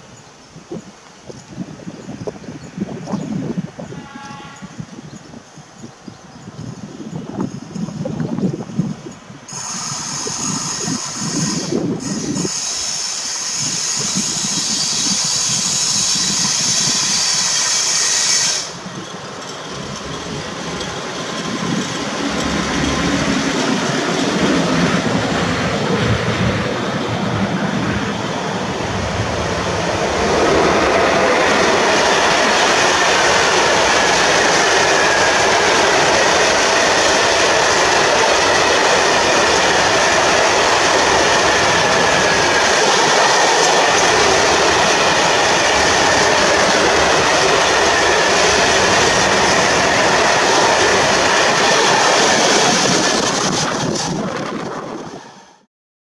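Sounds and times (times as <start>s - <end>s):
electric locomotive passing: 0.0s - 55.7s
freight train wheels clattering: 9.5s - 55.0s.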